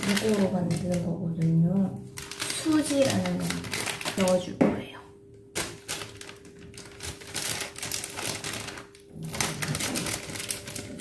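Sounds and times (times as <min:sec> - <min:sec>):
scissors snipping plastic packet: 0:00.0 - 0:04.6, 0:05.6 - 0:11.0.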